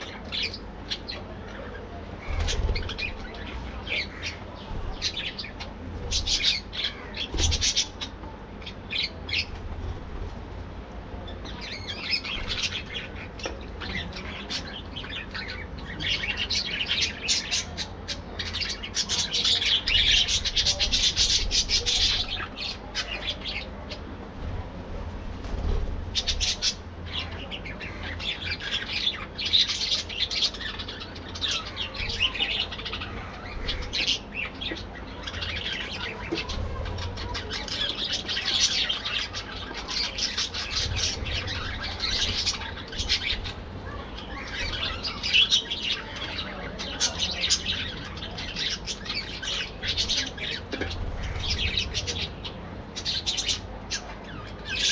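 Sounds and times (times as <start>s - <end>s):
budgerigars chirping and chattering: 0.0s - 10.0s, 11.2s - 24.2s, 25.4s - 54.9s.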